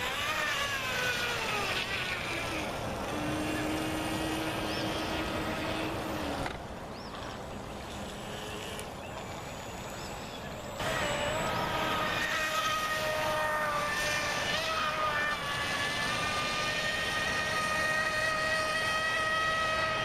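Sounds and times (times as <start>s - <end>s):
boat motor whining: 0.0s - 20.0s
water and wind hiss: 0.0s - 20.0s.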